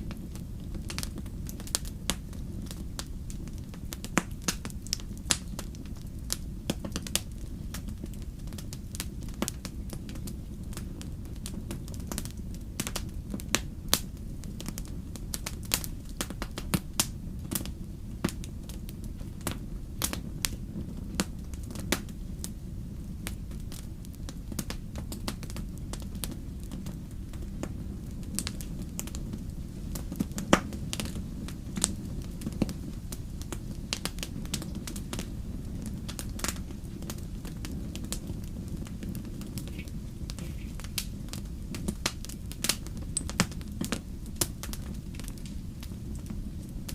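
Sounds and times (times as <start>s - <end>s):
fire crackling: 0.0s - 46.9s
low rumble of fire: 0.0s - 46.9s.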